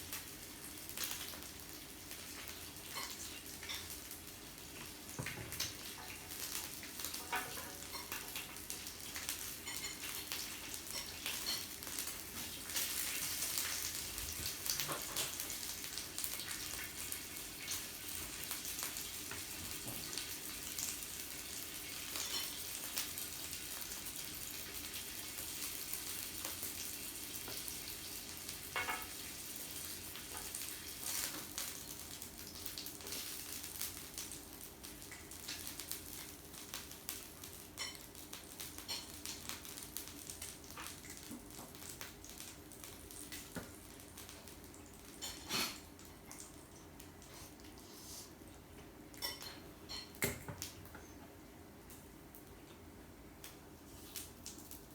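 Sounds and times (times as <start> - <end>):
meat sizzling on a grill: 0.0 - 50.8, 53.2 - 54.9.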